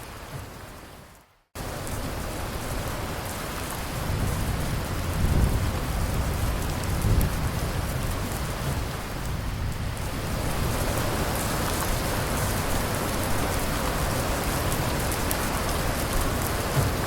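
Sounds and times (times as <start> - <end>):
faint ticks of raindrops: 0.0 - 17.0
heavy rain: 0.0 - 17.0.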